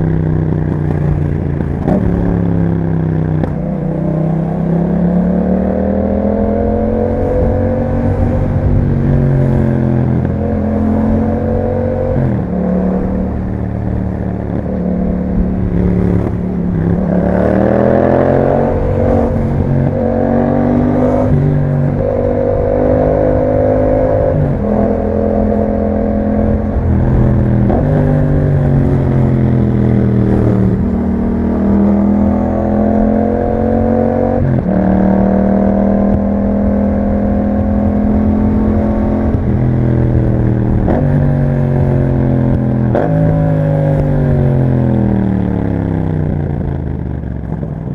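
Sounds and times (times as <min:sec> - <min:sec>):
motorcycle engine riding: 0:00.0 - 0:47.9.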